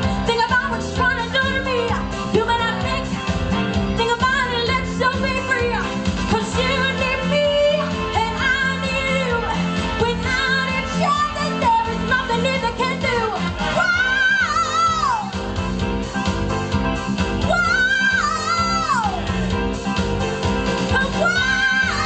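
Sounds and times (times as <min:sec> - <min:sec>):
pop-rock band playing: 0:00.0 - 0:22.0.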